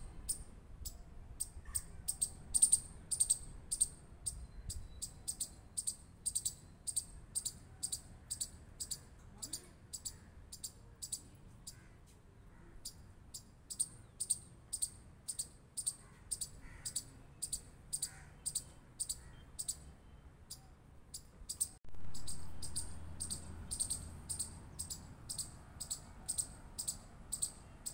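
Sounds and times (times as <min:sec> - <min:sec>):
chipmunk chirping alarm call: 0:00.0 - 0:11.8, 0:12.7 - 0:19.9, 0:20.5 - 0:27.9
background noise: 0:00.0 - 0:27.9.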